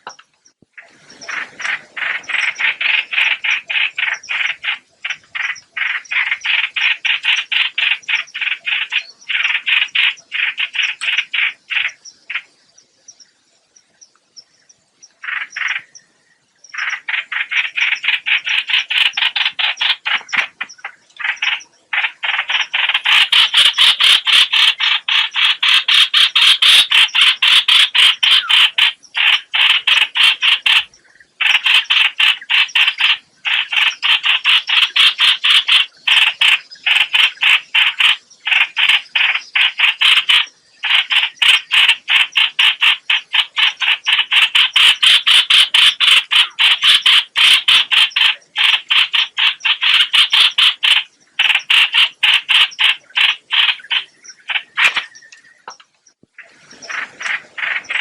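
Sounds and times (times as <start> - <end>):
harsh croaking bird call: 0.0 - 12.6, 15.2 - 16.1, 16.7 - 58.0.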